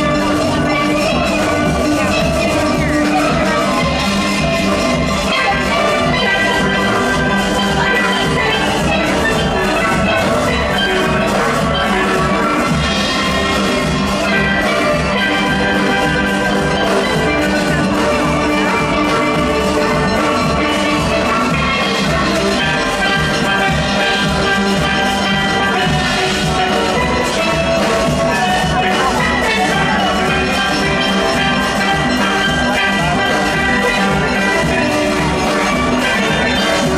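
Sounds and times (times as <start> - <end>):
drums keeping a beat: 0.0 - 36.9
steelpans playing: 0.0 - 36.9.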